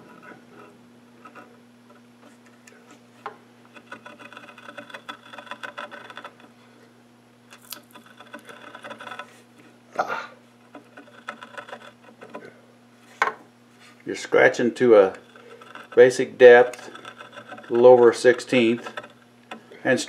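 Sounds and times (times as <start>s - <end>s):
cutter scraping wood: 0.0s - 3.0s, 3.7s - 6.8s, 7.8s - 9.8s, 10.6s - 13.2s, 13.8s - 20.0s.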